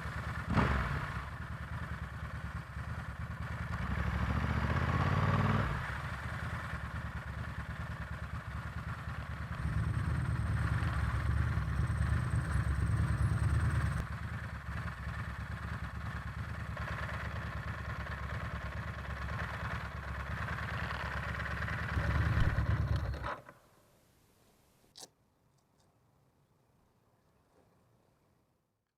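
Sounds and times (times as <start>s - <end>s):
motorcycle engine running: 0.0s - 23.5s.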